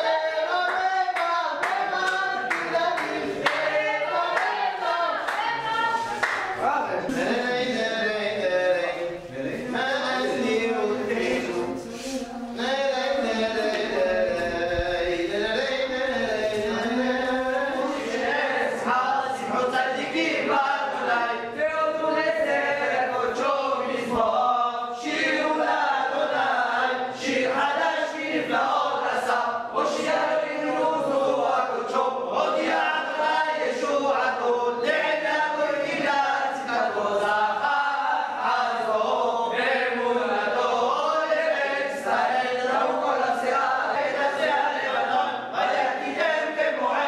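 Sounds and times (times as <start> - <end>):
men chanting prayers: 0.0 - 47.0.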